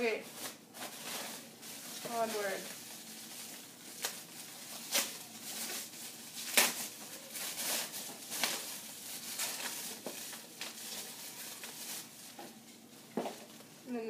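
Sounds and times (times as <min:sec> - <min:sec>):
crinkly packaging rustling: 0:00.0 - 0:13.9.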